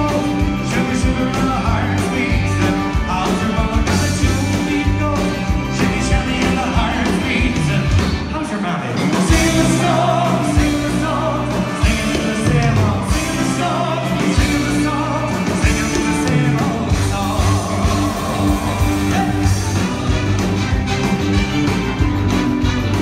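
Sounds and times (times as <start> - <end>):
person singing: 0.0 - 20.7
live band playing: 0.0 - 23.0.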